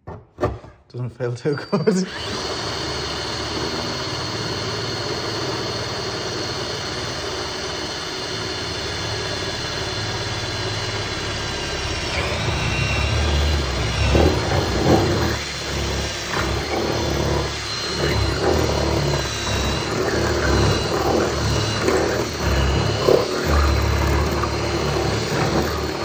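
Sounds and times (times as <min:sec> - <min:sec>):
cordless drill boring metal: 0:01.4 - 0:26.0.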